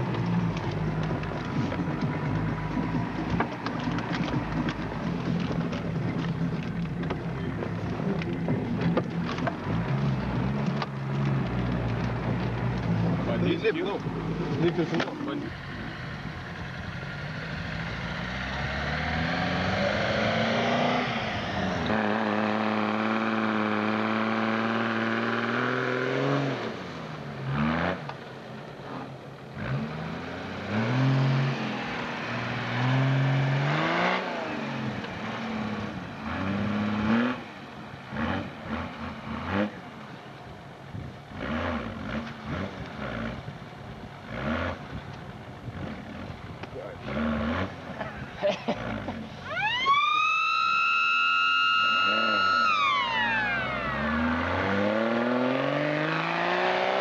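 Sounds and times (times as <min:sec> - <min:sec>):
engine revving: 0:00.0 - 0:40.2, 0:41.2 - 0:57.0.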